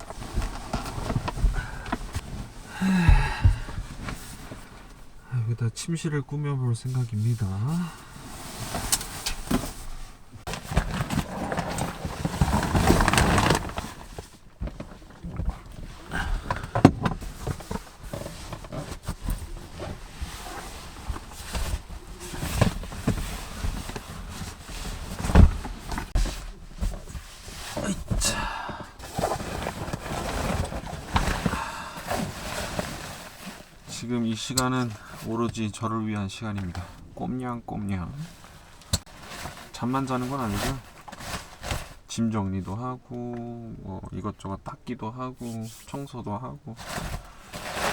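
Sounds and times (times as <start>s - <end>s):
camping gear rustling: 0.0s - 5.3s, 6.8s - 35.9s, 36.5s - 42.2s, 46.7s - 47.9s.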